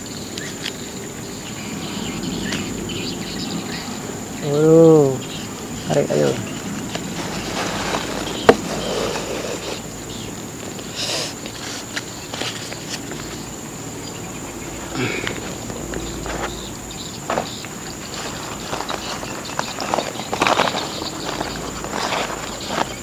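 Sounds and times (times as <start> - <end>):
insect high-pitched drone: 0.0 - 23.0.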